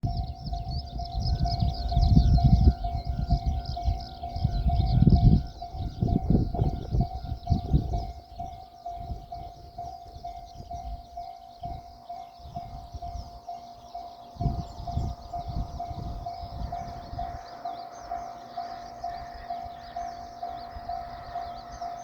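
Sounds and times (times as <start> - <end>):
level-crossing bell ringing: 0.1 - 22.0.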